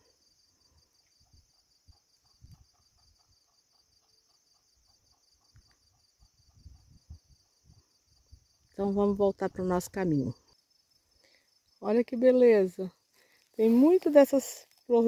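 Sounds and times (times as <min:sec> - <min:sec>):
high insect chorus: 0:00.0 - 0:15.0.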